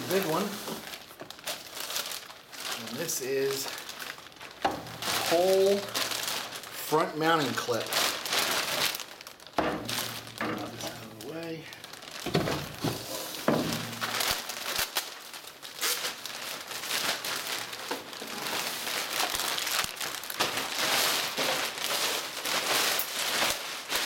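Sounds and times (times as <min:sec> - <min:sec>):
plastic wrapping crinkling: 0:00.0 - 0:24.0.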